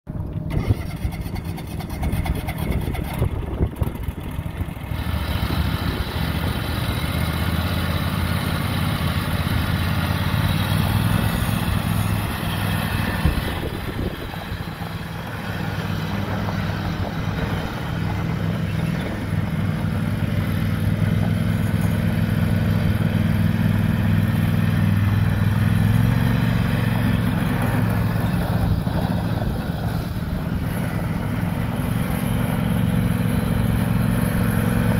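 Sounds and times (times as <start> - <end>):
riding mower engine running: 0.1 - 34.9.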